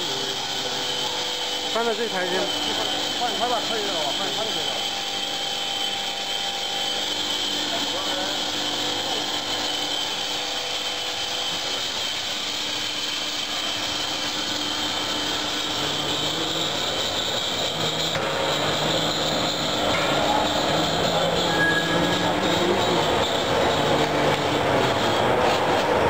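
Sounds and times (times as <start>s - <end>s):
machine humming with hiss: 0.0s - 26.0s.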